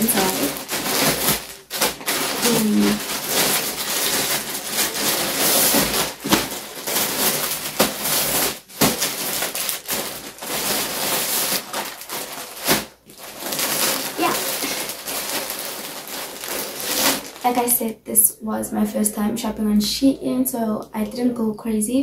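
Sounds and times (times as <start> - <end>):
plastic packaging rustling: 0.0 - 17.8.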